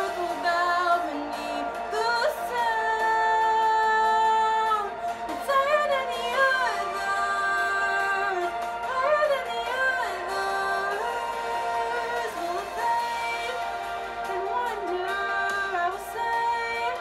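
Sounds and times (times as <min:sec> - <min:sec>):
woman singing solo: 0:00.0 - 0:17.0.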